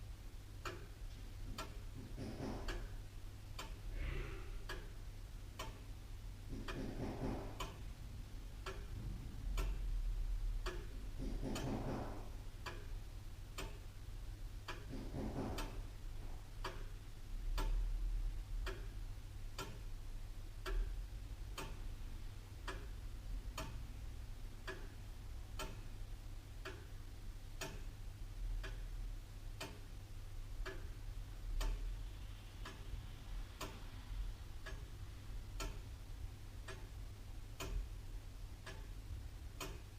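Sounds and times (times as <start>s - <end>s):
low steady hum: 0.0s - 39.9s
clock ticking: 0.6s - 10.0s, 10.6s - 29.0s, 29.6s - 39.9s.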